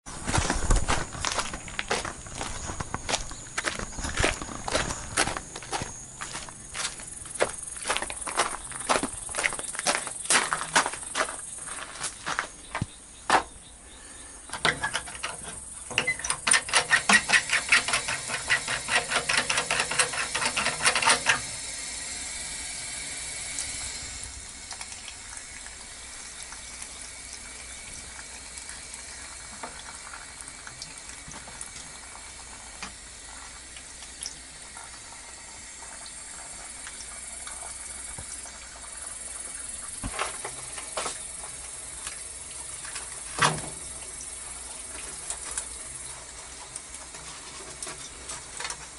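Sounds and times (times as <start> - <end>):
water hissing from leaking valve: 0.9 - 13.0, 14.2 - 48.9.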